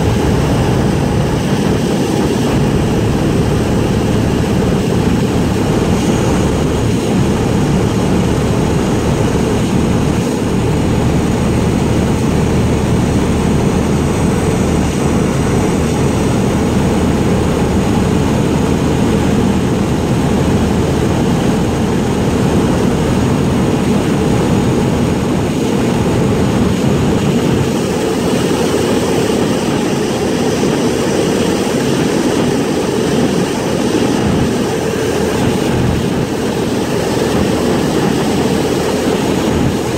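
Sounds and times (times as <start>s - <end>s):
propeller plane engine drone: 0.0s - 39.9s
rushing air: 0.0s - 39.9s.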